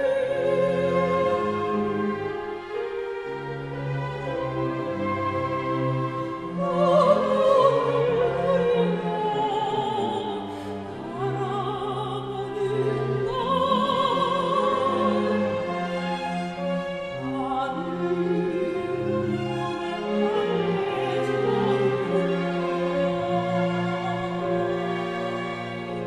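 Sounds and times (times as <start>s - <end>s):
operatic soprano singing: 0.0s - 3.1s, 3.8s - 26.0s
string orchestra sustained notes: 0.0s - 26.0s.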